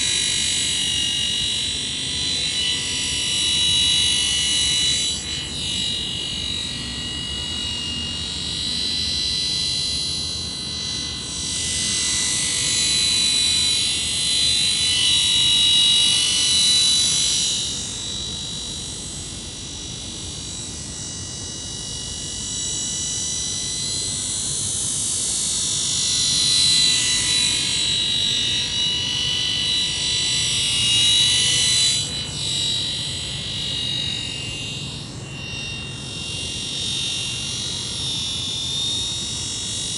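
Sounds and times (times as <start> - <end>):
rc helicopter high-pitched whine: 0.0 - 39.9.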